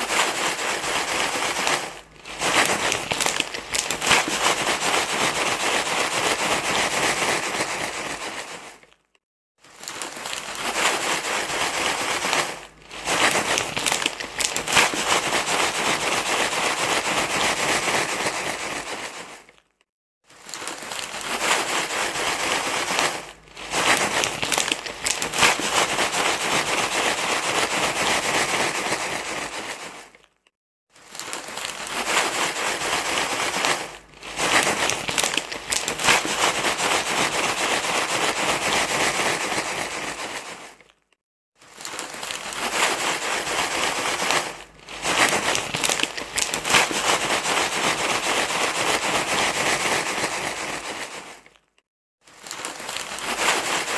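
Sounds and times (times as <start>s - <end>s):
crinkly material rustling: 0.0s - 53.9s.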